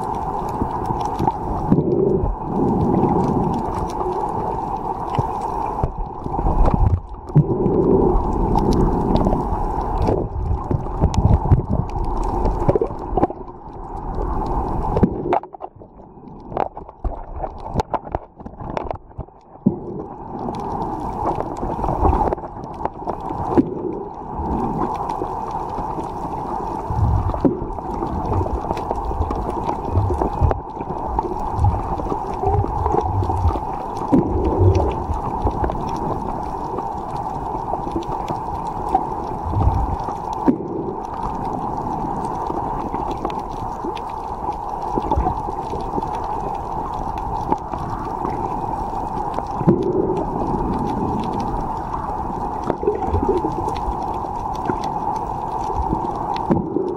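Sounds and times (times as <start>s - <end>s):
low thumping water surges: 0.0s - 56.9s
muffled underwater rush: 0.0s - 56.9s.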